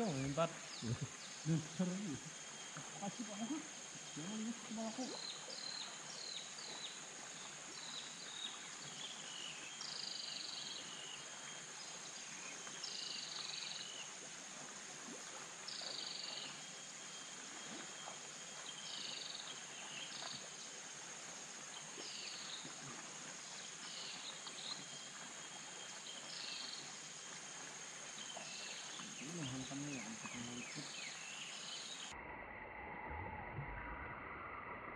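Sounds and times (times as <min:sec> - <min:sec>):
high insect drone: 0:00.0 - 0:33.1.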